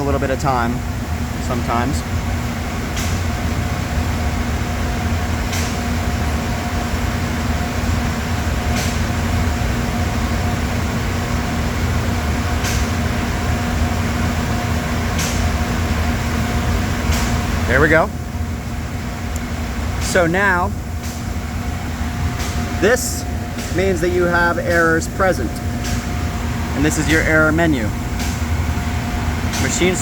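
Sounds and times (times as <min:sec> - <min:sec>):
air compressor humming: 0:00.0 - 0:30.0.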